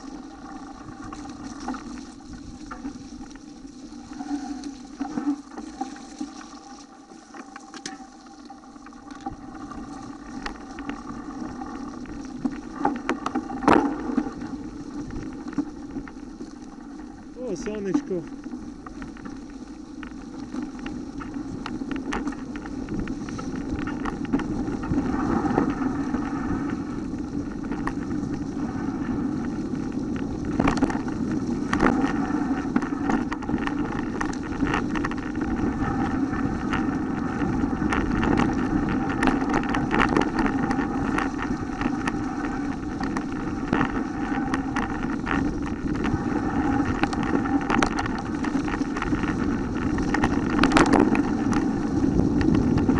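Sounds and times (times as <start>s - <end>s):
bike tyres rumbling on dirt trail: 0.0s - 52.9s
bike clicking and rattling over bumps: 7.4s - 52.9s.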